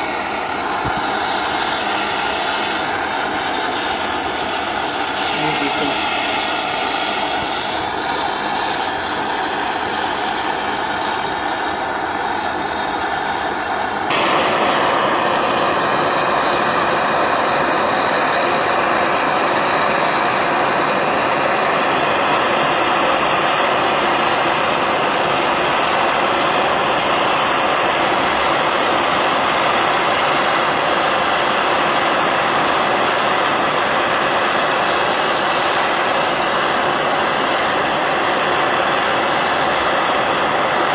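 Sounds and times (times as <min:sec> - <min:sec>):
gas torch hissing: 0:00.0 - 0:40.9.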